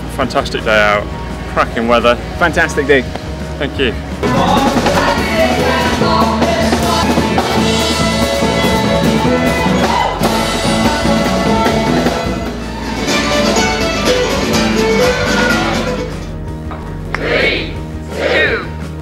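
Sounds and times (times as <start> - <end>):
drums: 0.0 - 19.0
guitar: 0.0 - 19.0.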